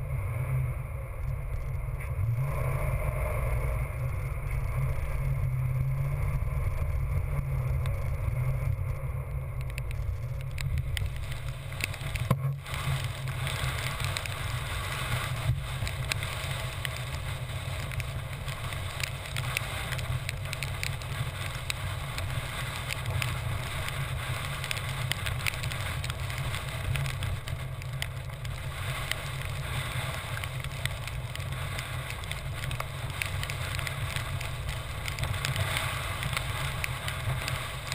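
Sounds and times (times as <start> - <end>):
crackly patter of wheels: 0.0 - 37.9
wind rumble on microphone: 0.0 - 37.9.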